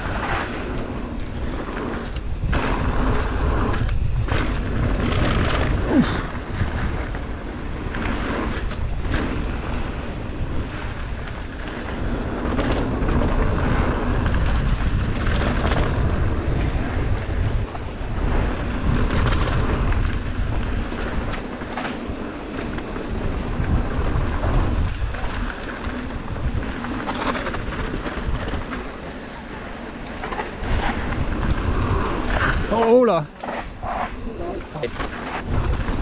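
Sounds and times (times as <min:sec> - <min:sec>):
bike knocking and rattling: 0:00.0 - 0:36.0
tyres rumbling on dirt: 0:00.0 - 0:36.0
wind buffeting microphone: 0:00.0 - 0:36.0.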